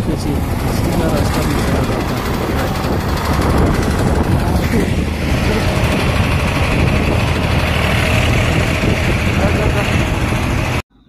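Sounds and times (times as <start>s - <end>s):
wind noise: 0.0s - 10.8s
tractor diesel engine: 0.0s - 10.9s
road noise: 0.0s - 11.0s.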